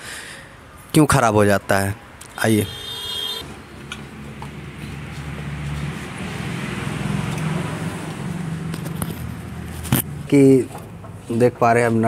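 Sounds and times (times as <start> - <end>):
engine droning: 0.0 - 11.4.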